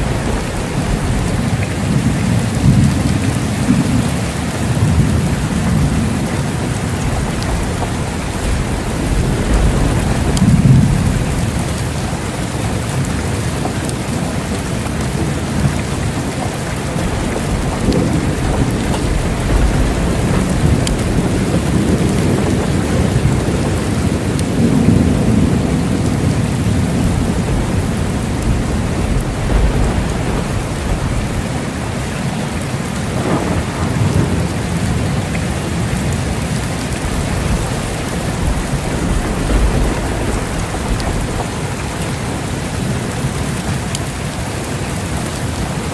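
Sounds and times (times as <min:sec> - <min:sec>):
low rolling thunder: 0:00.0 - 0:45.9
steady rain: 0:00.0 - 0:45.9.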